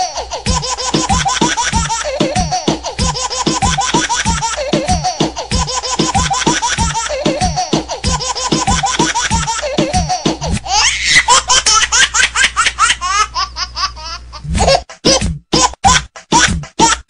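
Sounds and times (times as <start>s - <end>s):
high-pitched giggling laughter: 0.0s - 17.0s.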